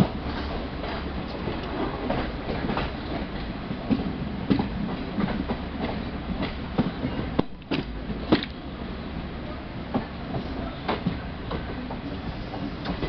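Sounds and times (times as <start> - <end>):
wheel clacks on track: 0.0 - 8.6, 9.9 - 13.0
train wheels rumbling on rail: 0.0 - 13.0.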